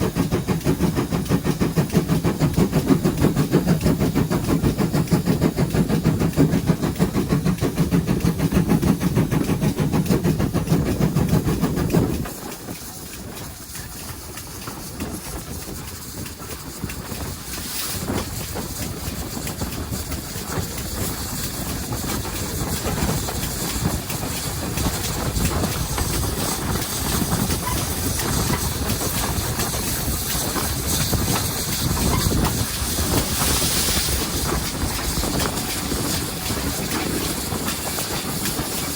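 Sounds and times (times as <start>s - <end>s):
steam locomotive working: 0.0s - 38.9s
train rumble and hiss: 0.0s - 38.9s.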